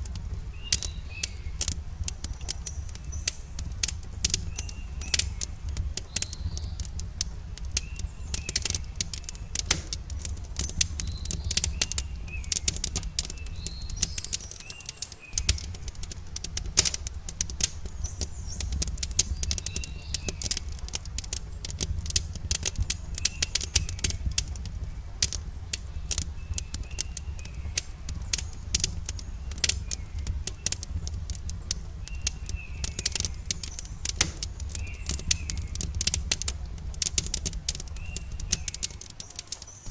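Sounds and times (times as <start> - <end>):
campfire crackling and popping: 0.0 - 39.9
small birds chirping: 0.0 - 39.9.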